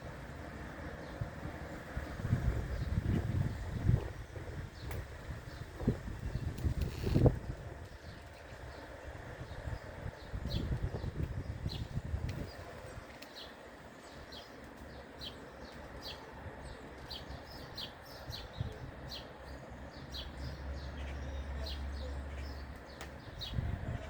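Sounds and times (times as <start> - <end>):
small birds chirping: 0.8 - 24.0.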